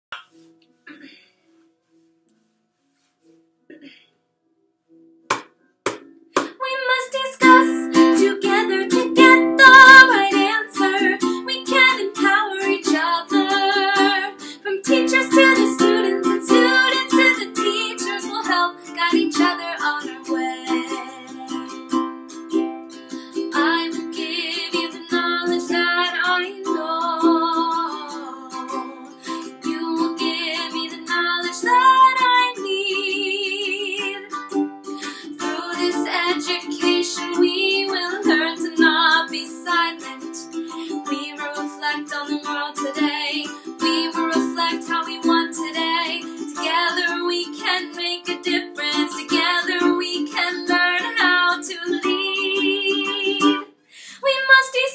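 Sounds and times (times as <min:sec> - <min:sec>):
ukulele strumming: 0:05.3 - 0:53.8
woman singing: 0:06.4 - 0:21.9, 0:23.3 - 0:54.9.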